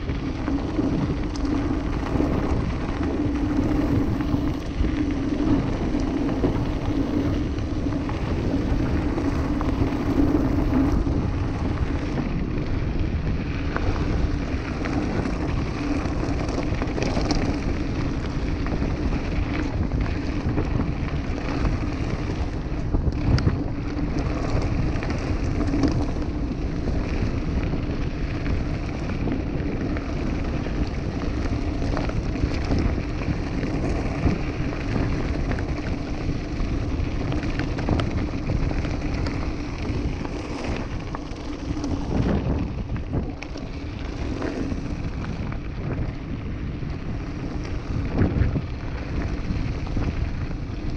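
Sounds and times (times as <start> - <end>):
bike tyres crunching on gravel: 0.0 - 50.9
stones and bike rattling: 0.0 - 50.9
wind buffeting microphone: 0.0 - 50.9.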